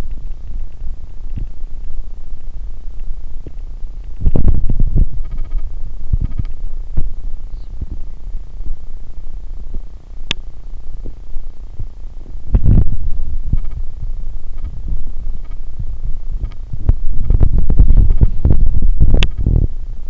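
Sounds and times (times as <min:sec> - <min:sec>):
low humming and throbbing: 0:00.0 - 0:20.0.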